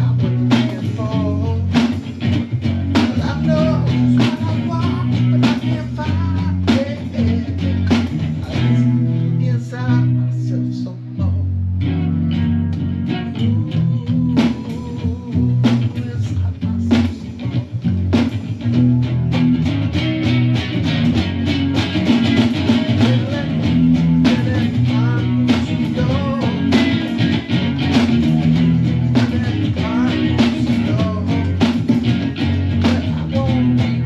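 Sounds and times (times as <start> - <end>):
blues guitar: 0.0 - 34.0.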